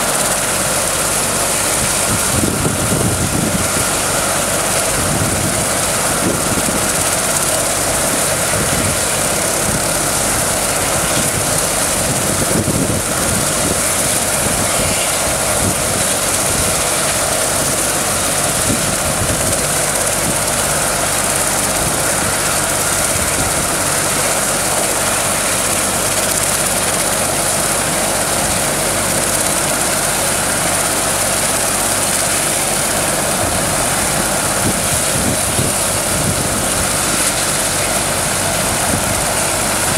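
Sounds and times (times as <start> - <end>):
helicopter turbines whining: 0.0 - 39.9.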